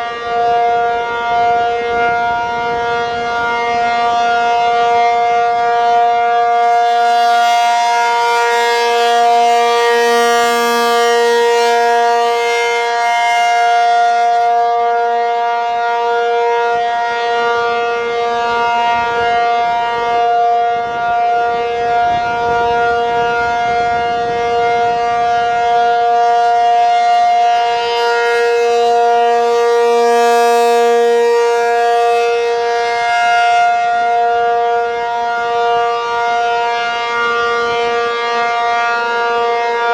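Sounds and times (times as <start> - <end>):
tornado siren two-note chord: 0.0 - 39.9.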